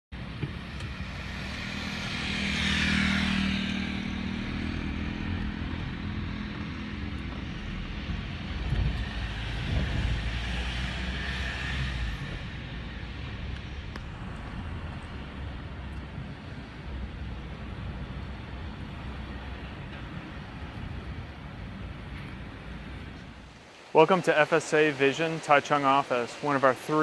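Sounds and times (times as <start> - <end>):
low engine rumble: 0.2 - 23.5
vehicle passing: 0.5 - 24.6.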